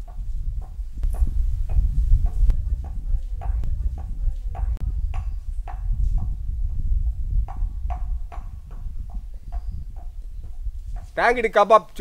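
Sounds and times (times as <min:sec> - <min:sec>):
low rumble: 0:00.0 - 0:11.2.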